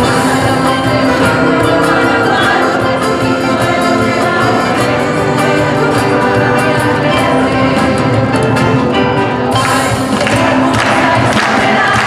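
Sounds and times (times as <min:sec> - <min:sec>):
mixed choir singing: 0:00.0 - 0:12.0.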